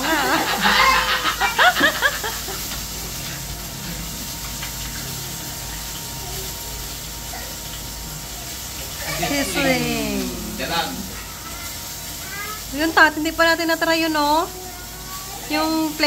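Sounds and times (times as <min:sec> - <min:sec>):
oil sizzling around frying fish: 0:00.0 - 0:16.0.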